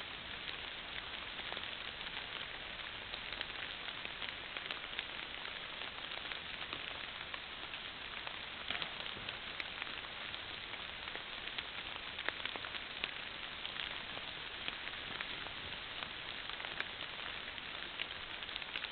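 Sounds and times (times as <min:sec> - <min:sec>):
faint crackles and clicks: 0:00.0 - 0:18.9
microphone hiss: 0:00.0 - 0:18.9.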